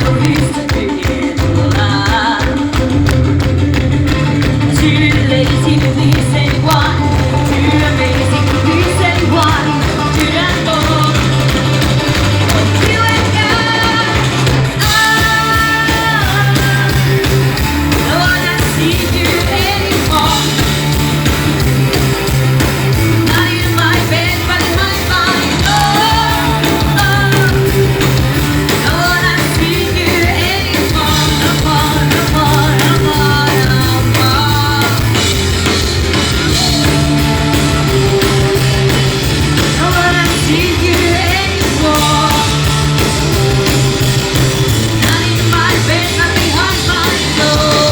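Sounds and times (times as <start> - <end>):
person singing lead vocal: 0.0 - 20.9, 23.1 - 43.7, 44.9 - 47.9
bass line: 0.0 - 47.9
drums: 0.0 - 47.9
rock band playing live: 0.0 - 47.9.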